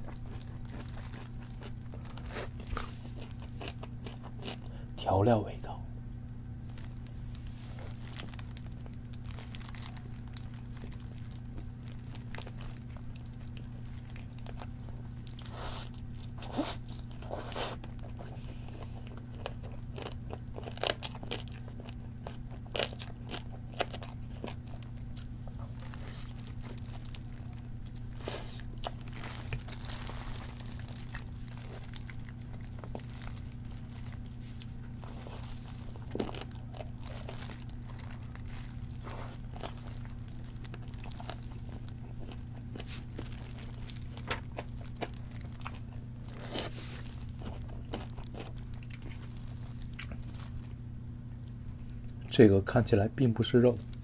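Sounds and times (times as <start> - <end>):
crunchy chewing: 0.0 - 4.9, 6.6 - 52.3.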